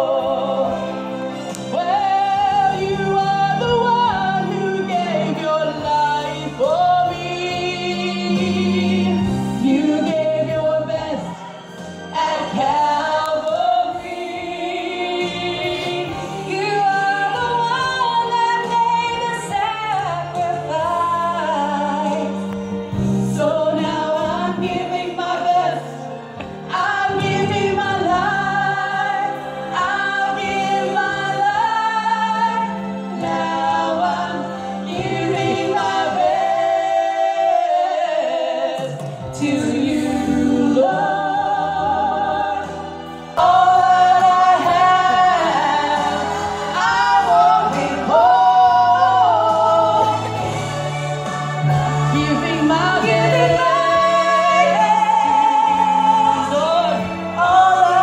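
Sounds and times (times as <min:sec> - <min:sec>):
women singing gospel duet: 0:00.0 - 0:58.0.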